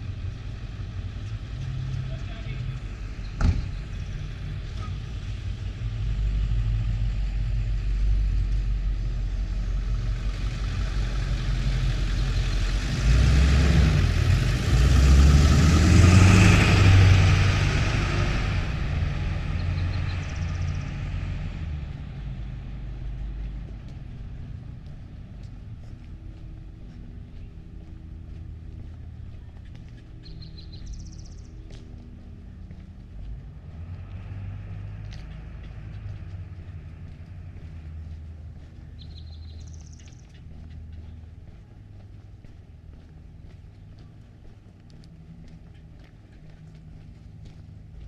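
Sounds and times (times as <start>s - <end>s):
vehicle driving past: 0.0s - 48.0s.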